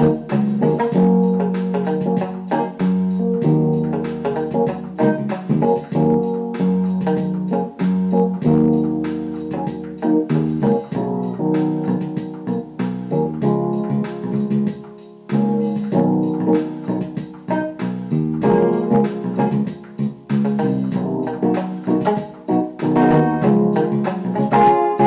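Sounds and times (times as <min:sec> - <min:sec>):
held keyboard chords: 0:00.0 - 0:25.0.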